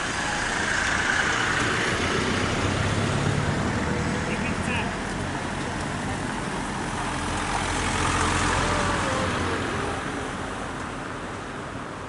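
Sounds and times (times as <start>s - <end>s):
road vehicle passing by: 0.0s - 12.0s.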